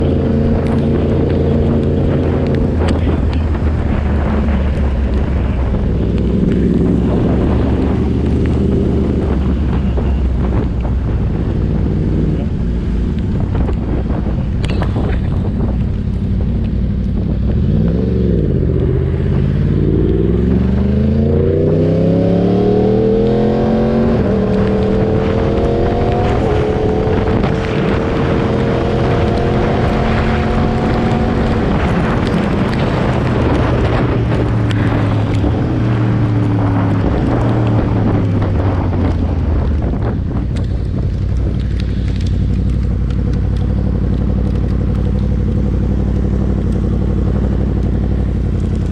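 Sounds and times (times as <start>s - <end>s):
motorcycle engine revving: 0.0s - 10.7s, 11.3s - 48.9s
wind rushing over microphone: 0.0s - 48.9s.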